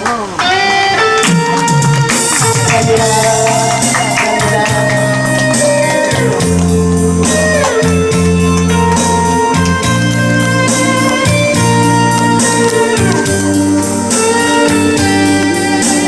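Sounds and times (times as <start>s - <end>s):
guitar melody with bending notes: 0.0s - 16.0s
held keyboard chords: 0.0s - 16.0s
steady drum beat: 1.3s - 16.0s.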